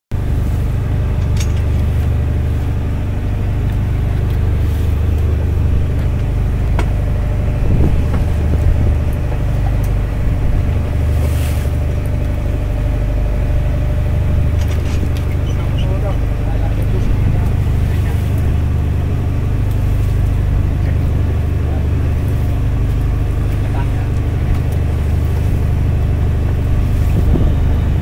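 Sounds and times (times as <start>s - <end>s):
boat engine humming: 0.1s - 28.0s.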